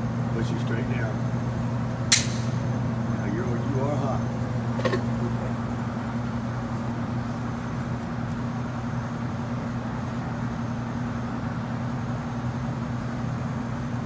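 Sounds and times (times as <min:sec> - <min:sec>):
droning machinery hum: 0:00.0 - 0:14.0.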